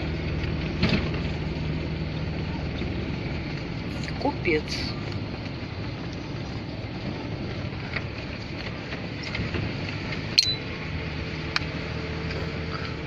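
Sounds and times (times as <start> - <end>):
van engine and road rumble: 0.0 - 13.0.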